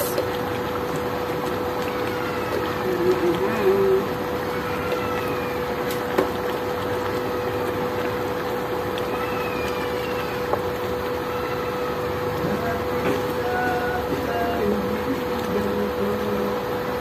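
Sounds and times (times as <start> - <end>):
curry simmering: 0.0 - 17.0
induction cooktop hum: 0.0 - 17.0.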